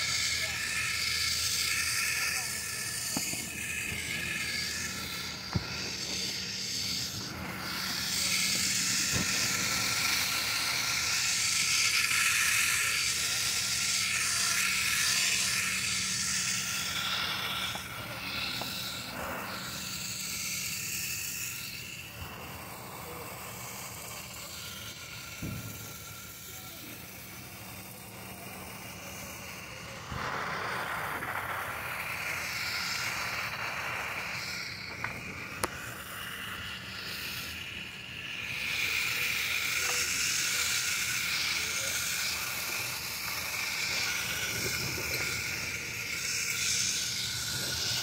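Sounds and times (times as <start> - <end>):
faint steady hum: 0.0 - 48.0
hissing and rustling noise: 0.0 - 48.0.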